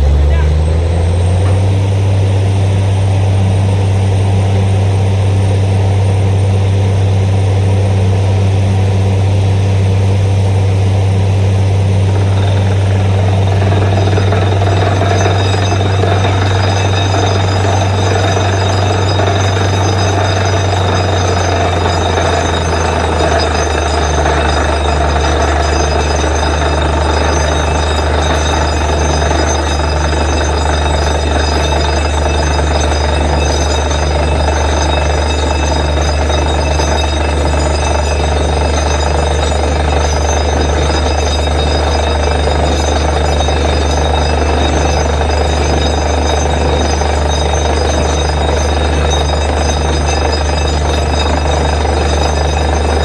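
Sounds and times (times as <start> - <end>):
drilling rig engine hum: 0.0 - 53.0
harsh noisy machine sound: 0.0 - 53.0.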